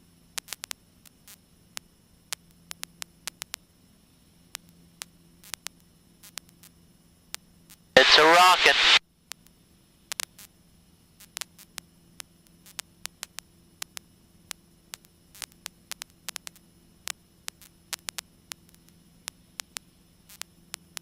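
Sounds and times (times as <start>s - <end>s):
faint electrical hum: 0.0s - 21.0s
crackling radio static clicks: 0.4s - 3.6s, 4.6s - 9.0s, 11.2s - 21.0s.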